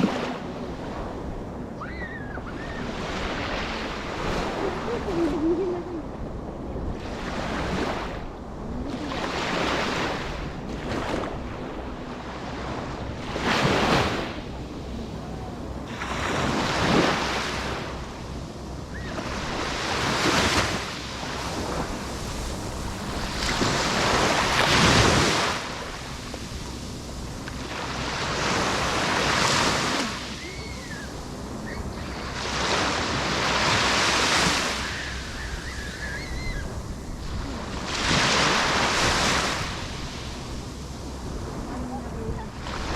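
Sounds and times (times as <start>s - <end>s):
ocean waves breaking on shore: 0.0s - 42.9s.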